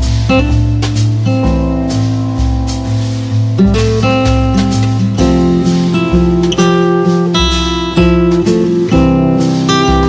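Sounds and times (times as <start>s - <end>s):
bass line: 0.0s - 10.0s
strummed guitar: 0.0s - 10.0s.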